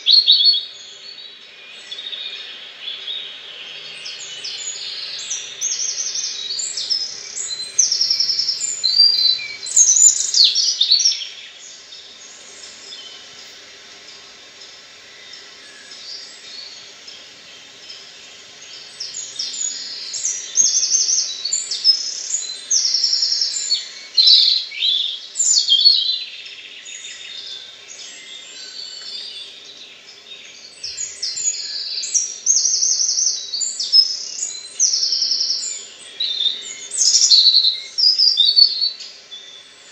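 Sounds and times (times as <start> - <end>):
songbird singing with trills: 0.0 - 39.9.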